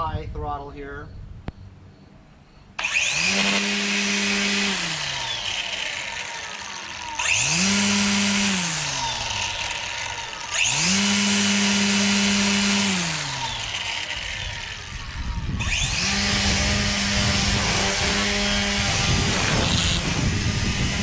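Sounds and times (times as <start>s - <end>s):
string trimmer whining: 2.8s - 21.0s.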